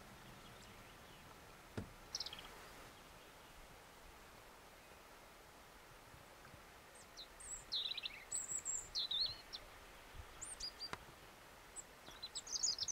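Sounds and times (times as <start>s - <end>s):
songbirds chirping and trilling: 0.0s - 5.5s, 6.1s - 12.9s
faint outdoor hiss: 0.0s - 12.9s.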